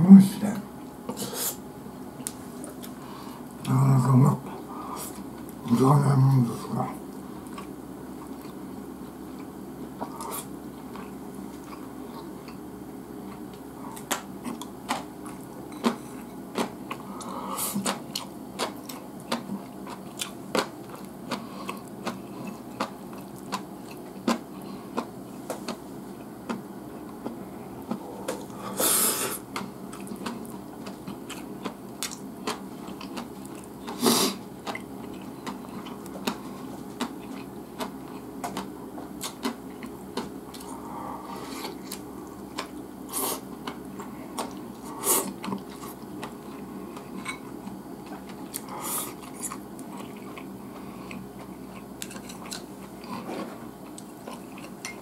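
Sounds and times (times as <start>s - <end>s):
low room hum: 0.0s - 55.0s
chewing: 7.1s - 12.6s, 13.2s - 28.7s, 29.3s - 55.0s.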